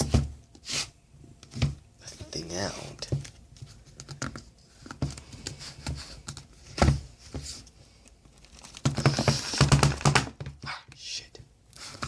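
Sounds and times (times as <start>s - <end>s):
handling cardboard packaging: 0.0s - 10.6s.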